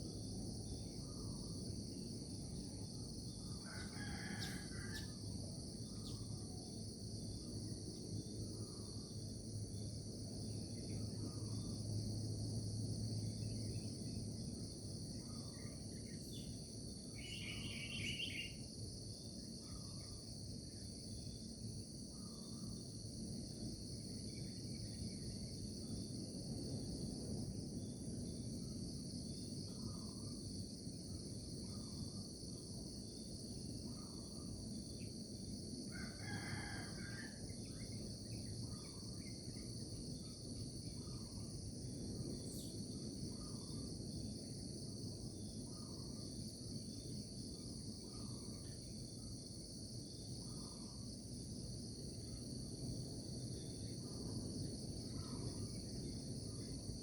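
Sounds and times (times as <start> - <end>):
soft short insect calls: 0.0 - 9.9, 13.2 - 26.2, 27.8 - 52.7, 53.4 - 57.0
crickets and insects trilling: 0.0 - 57.0.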